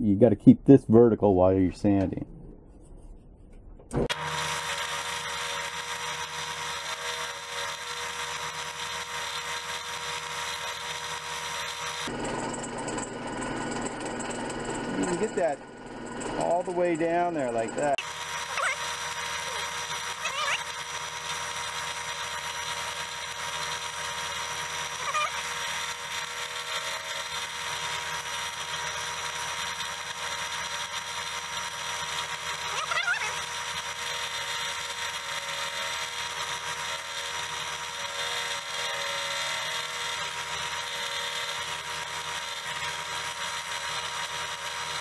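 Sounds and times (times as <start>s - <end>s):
drill press whine: 3.8s - 45.0s.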